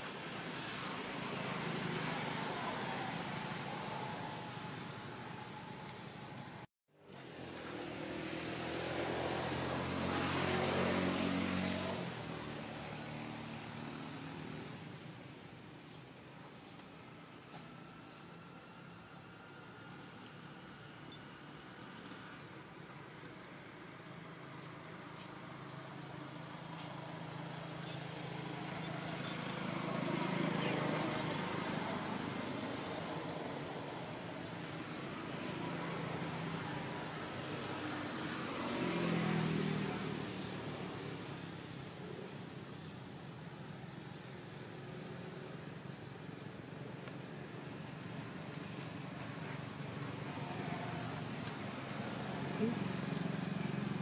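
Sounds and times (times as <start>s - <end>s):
engine passing by: 0.0s - 15.2s, 17.4s - 54.0s
outdoor background noise: 0.0s - 54.0s.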